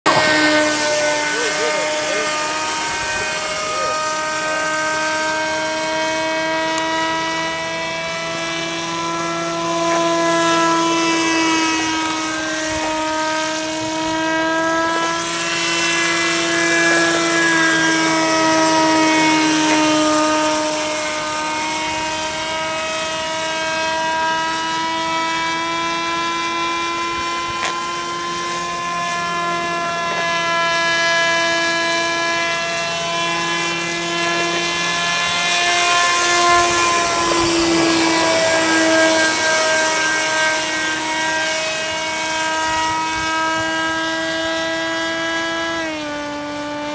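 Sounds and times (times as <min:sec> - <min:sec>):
model aircraft engine droning: 0:00.0 - 0:46.9.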